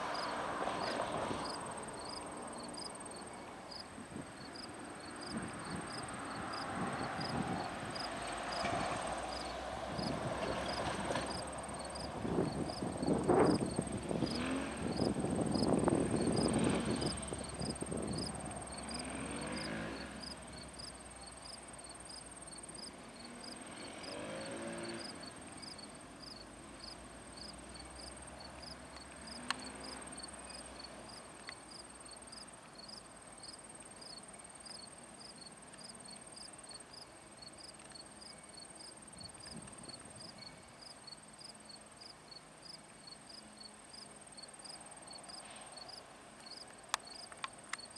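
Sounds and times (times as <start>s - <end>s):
insects chirping: 0.0s - 47.9s
steady high insect trill: 0.1s - 47.9s.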